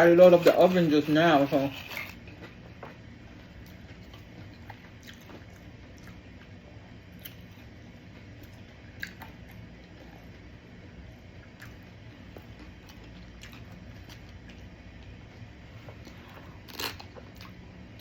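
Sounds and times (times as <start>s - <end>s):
steady low hum: 0.0s - 18.0s
person chewing food: 1.4s - 10.6s, 11.3s - 18.0s.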